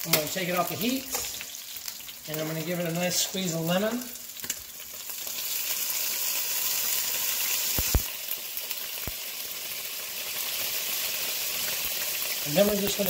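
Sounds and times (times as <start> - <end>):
butter sizzling in a skillet: 0.0 - 13.0.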